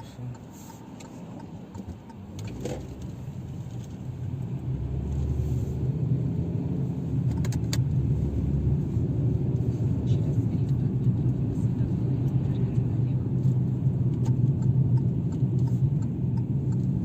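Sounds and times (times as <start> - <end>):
car road and tyre rumble: 0.0 - 17.0.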